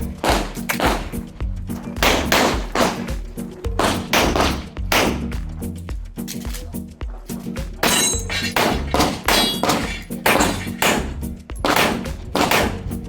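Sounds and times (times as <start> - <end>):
music with heavy drum beat: 0.0 - 13.0.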